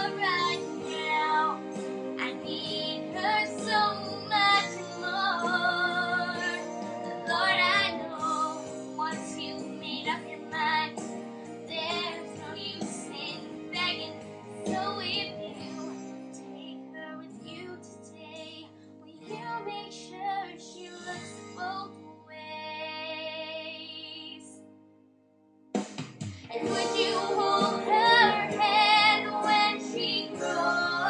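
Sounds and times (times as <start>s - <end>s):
girl singing: 0.0s - 11.0s, 11.7s - 24.6s, 26.5s - 31.0s
soft backing track: 0.0s - 24.7s, 25.6s - 31.0s.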